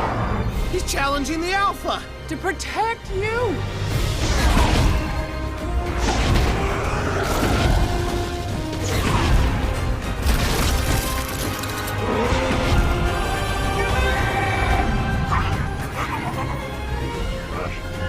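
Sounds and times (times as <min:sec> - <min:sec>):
dramatic music: 0:00.0 - 0:18.0.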